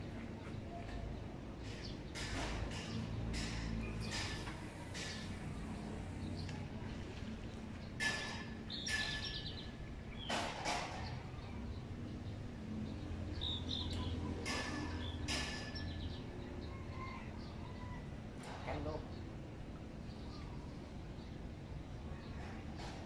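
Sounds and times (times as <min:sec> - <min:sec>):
birds chirping harshly: 0:01.5 - 0:06.7, 0:07.8 - 0:22.7.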